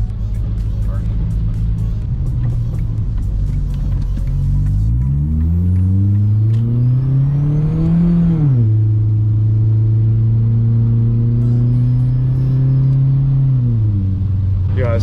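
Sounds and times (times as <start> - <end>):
car engine droning through open exhaust: 0.0 - 15.0.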